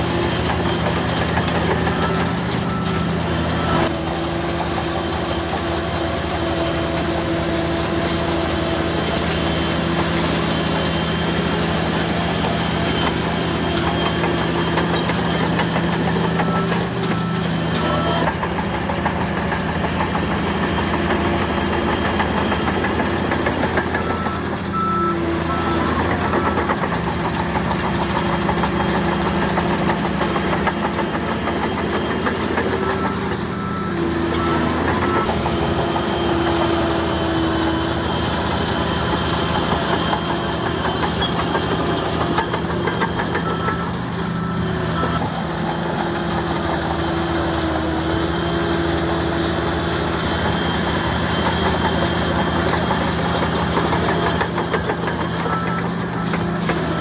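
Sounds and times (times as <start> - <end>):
bulldozer diesel engine running: 0.0 - 57.0
engine whine: 0.0 - 57.0.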